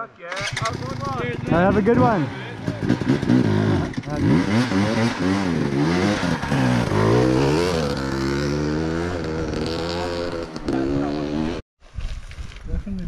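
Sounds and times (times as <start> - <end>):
motorbike engine revving: 0.3 - 11.6.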